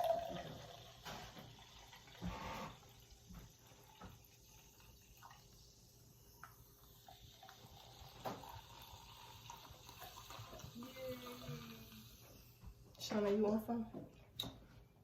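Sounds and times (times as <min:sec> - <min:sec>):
soda pouring and fizzing: 0:00.0 - 0:12.7.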